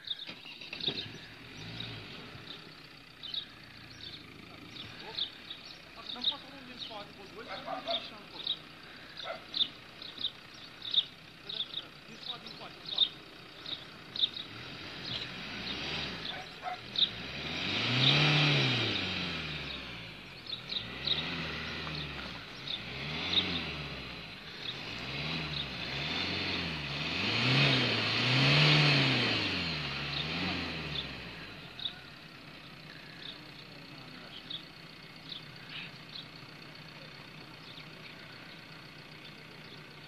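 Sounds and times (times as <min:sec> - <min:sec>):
van engine revving: 0:00.0 - 0:40.0.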